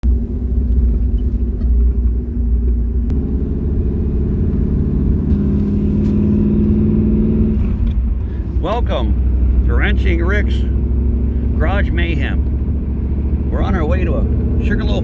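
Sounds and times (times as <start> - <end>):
car engine: 0.0 - 15.0
road rumble: 0.0 - 15.0.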